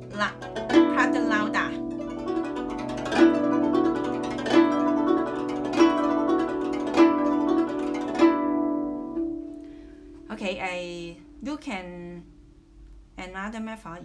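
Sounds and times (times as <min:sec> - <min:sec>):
zither plucking with pitch bends: 0:00.0 - 0:12.9.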